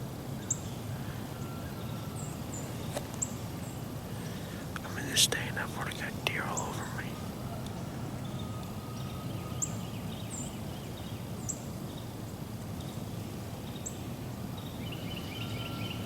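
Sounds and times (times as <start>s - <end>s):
low rumble of background noise: 0.0s - 16.0s.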